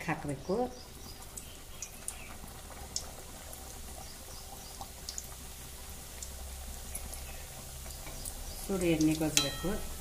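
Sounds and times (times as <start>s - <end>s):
dough deep-frying in oil: 0.0s - 10.0s.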